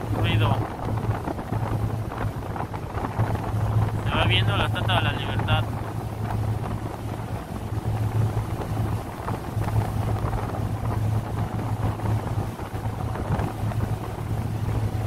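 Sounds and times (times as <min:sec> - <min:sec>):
ferry engine hum: 0:00.0 - 0:15.0
wind buffeting microphone: 0:00.0 - 0:15.0.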